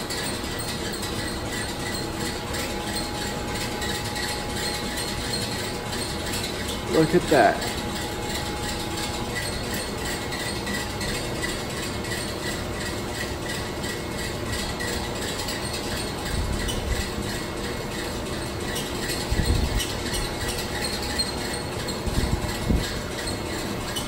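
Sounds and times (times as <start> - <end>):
fast mechanical ticking: 0.0 - 24.0
lab machinery running: 0.0 - 24.0.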